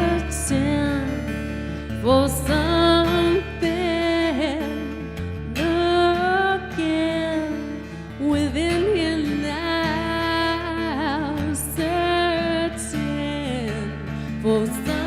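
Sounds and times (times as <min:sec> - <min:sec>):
acoustic guitar: 0:00.0 - 0:15.0
woman singing: 0:00.0 - 0:15.0.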